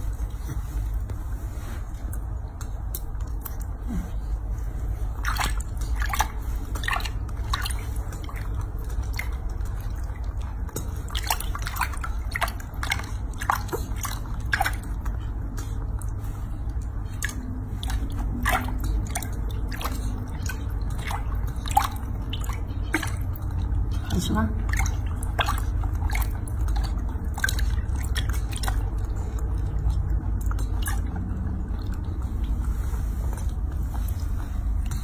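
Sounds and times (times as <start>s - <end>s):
water splashing and dripping: 4.8s - 35.0s.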